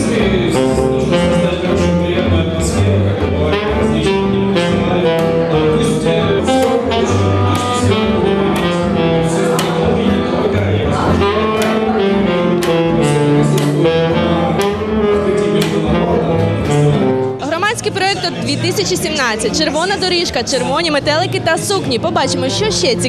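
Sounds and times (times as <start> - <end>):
acoustic guitar accompaniment: 0.0 - 23.0
saxophone melody: 0.0 - 23.0
walking double bass: 0.0 - 23.0.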